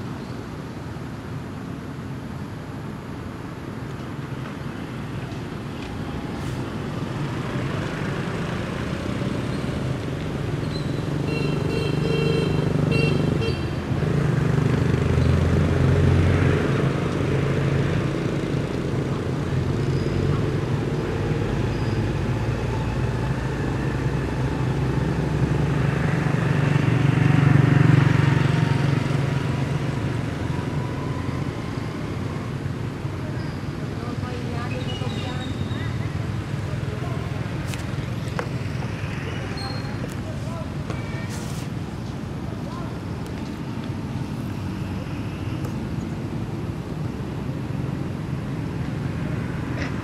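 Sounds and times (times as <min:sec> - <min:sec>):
vehicle engines humming: 0:00.0 - 0:50.0.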